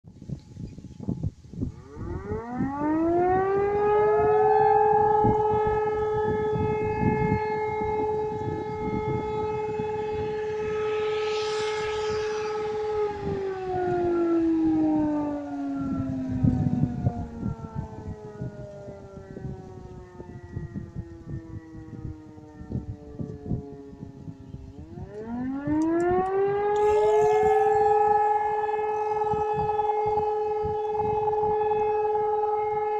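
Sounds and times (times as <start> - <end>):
fire alarm siren wailing: 1.6 - 32.9.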